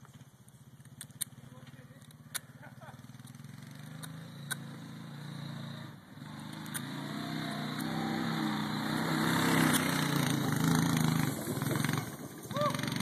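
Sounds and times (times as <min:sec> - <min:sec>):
atv engine passing: 0:00.0 - 0:13.0.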